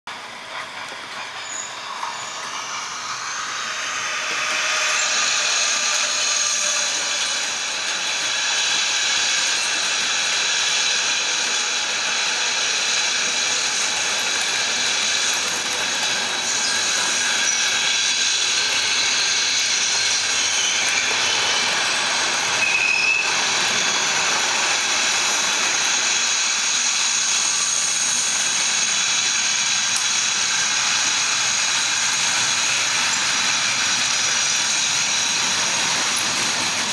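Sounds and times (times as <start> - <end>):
model train motor whine: 0.1 - 36.9
wheels rattling on rail: 0.1 - 36.9.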